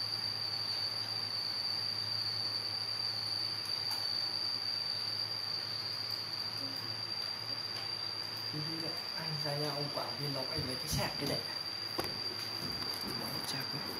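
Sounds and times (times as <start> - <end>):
high-pitched whine: 0.0 - 13.9.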